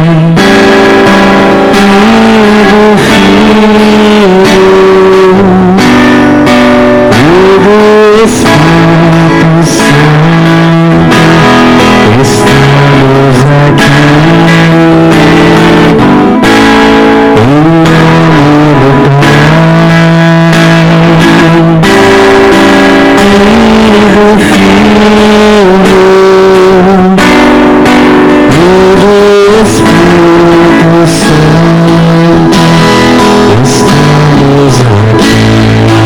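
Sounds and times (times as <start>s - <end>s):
loud guitar music: 0.0s - 36.0s.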